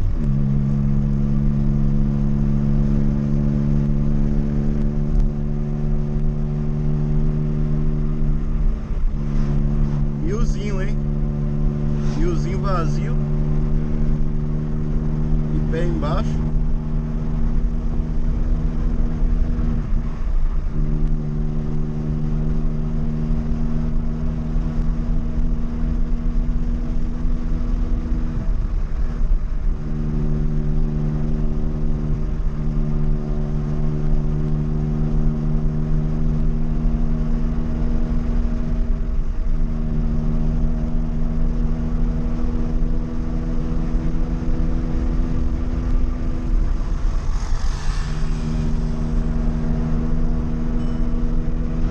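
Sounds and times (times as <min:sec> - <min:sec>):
car engine and exhaust revving: 0:00.0 - 0:51.9.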